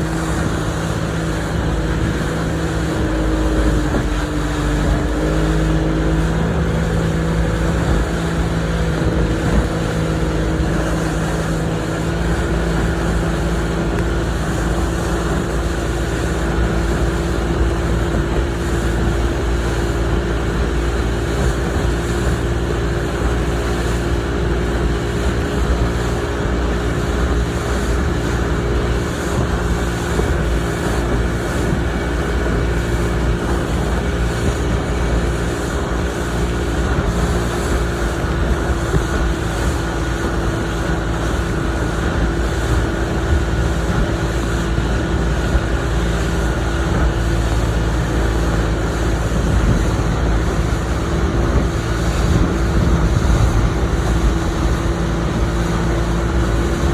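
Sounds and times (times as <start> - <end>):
boat motor running: 0.0 - 56.9
rushing water: 0.0 - 56.9
wind: 0.0 - 56.9.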